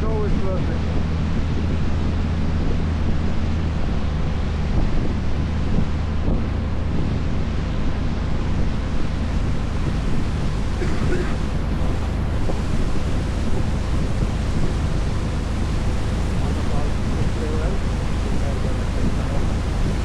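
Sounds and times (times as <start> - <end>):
boat engine humming: 0.0 - 20.0
water rushing along hull: 0.0 - 20.0
wind buffeting microphone: 0.0 - 20.0.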